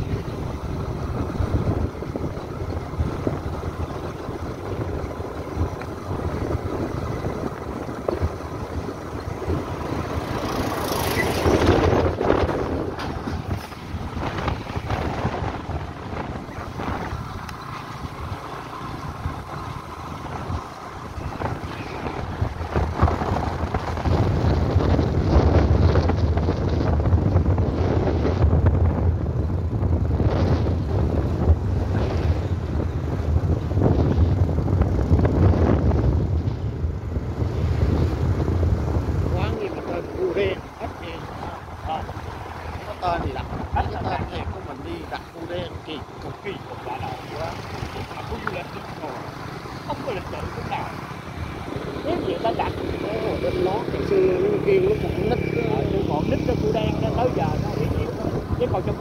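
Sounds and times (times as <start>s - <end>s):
motorbike running: 0.0s - 59.0s
wind buffeting microphone: 0.0s - 59.0s.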